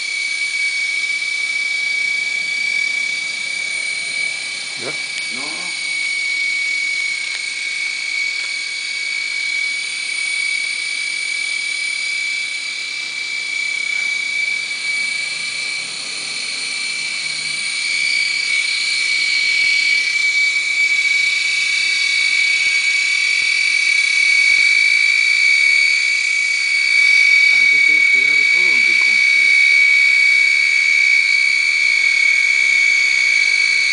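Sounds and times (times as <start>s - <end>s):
toy helicopter motors whining: 0.0s - 33.9s.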